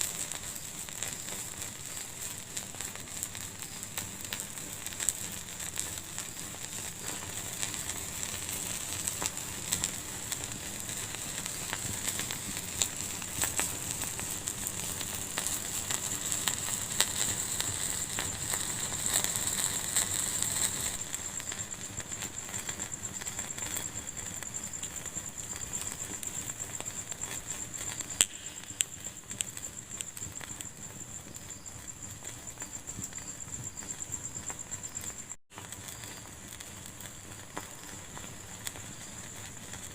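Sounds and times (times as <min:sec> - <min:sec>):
fire crackling and hissing: 0:00.0 - 0:39.9.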